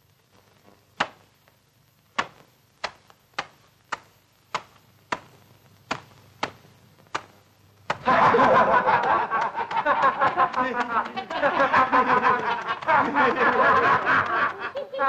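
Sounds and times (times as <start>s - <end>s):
boots stamping on eggs: 2.2s - 14.9s.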